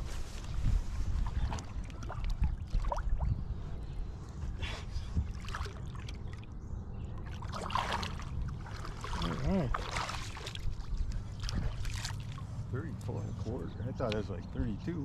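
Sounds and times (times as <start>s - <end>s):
water sloshing against boat: 0.0s - 13.6s.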